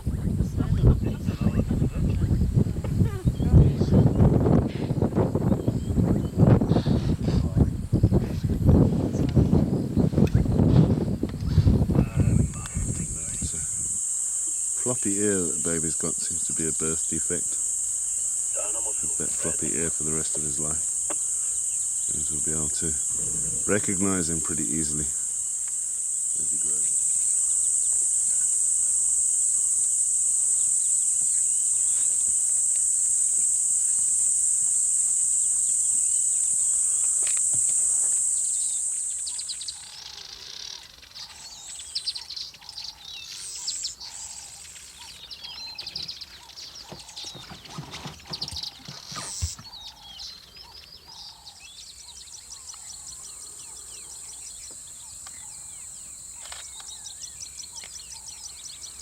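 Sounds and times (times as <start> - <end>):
birds chirping and calling: 0.0 - 34.4, 35.2 - 59.0
pulsing insect buzz: 0.0 - 59.0
high-pitched insect drone: 11.5 - 59.0.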